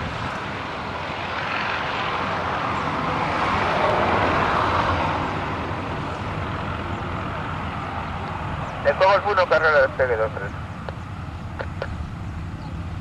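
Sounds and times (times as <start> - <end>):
propeller airplane engine passing: 0.0 - 13.0.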